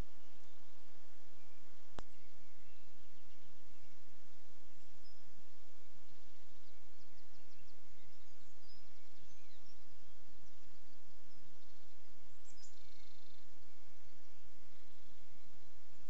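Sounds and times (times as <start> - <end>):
faint bird chirps and calls: 0.0 - 16.0
steady background hiss: 0.0 - 16.0.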